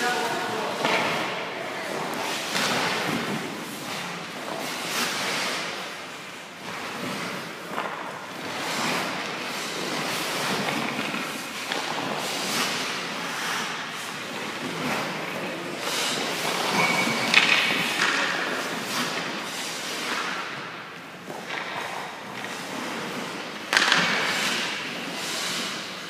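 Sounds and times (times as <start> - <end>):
skate blades scraping ice: 0.0 - 26.0.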